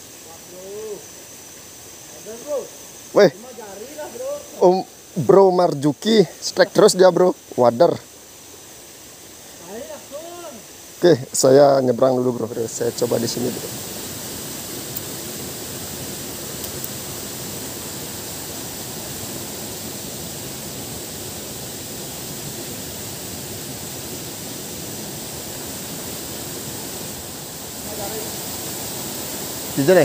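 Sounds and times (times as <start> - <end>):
faint high hiss: 0.0 - 30.0.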